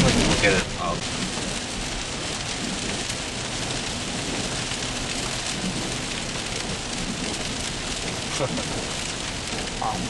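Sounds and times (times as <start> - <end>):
rain falling steadily: 0.0 - 10.0.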